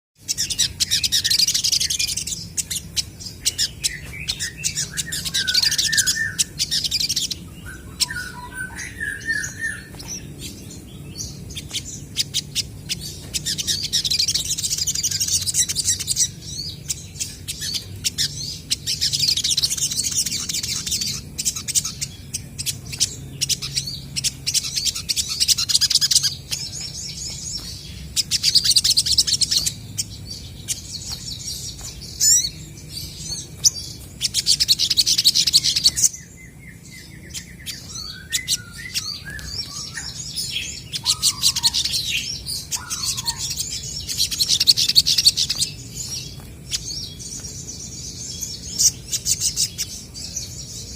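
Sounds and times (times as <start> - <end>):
sunbirds chattering: 0.2 - 50.9.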